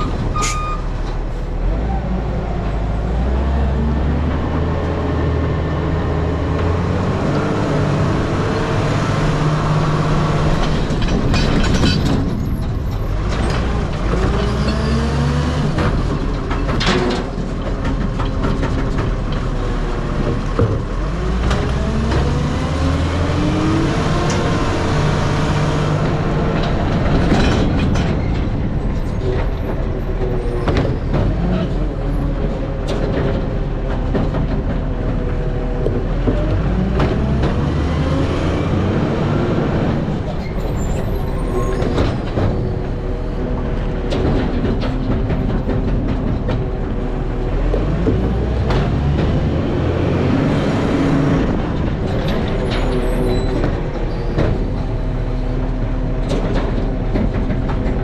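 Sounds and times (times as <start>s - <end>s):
diesel truck engine: 0.0s - 58.0s
road noise rumble: 0.0s - 58.0s.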